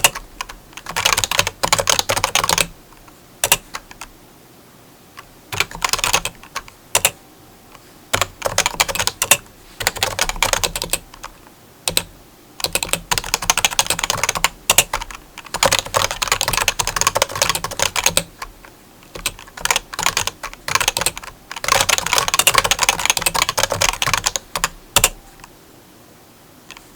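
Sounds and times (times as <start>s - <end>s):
keyboard typing: 0.0s - 4.1s, 5.2s - 25.5s, 26.7s - 26.9s.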